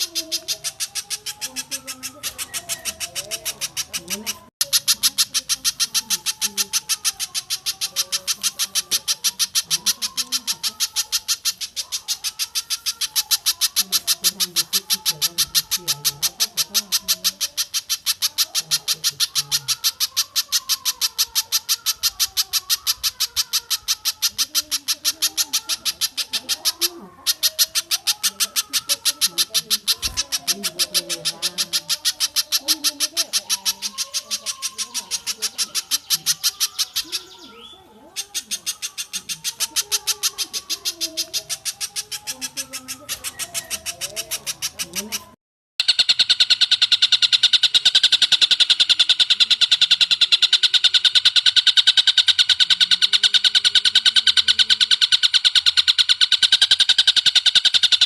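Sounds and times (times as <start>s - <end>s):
lower wavering bird calls: 0.0s - 58.0s
sharp high-pitched bird notes: 0.0s - 58.0s.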